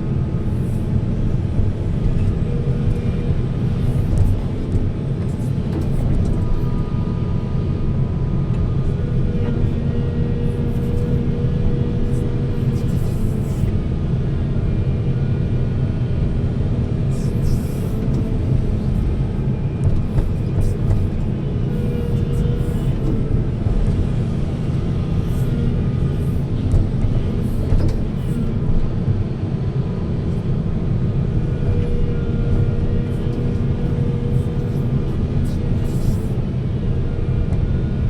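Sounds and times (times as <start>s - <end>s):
diesel earthmoving machinery droning: 0.0s - 38.0s.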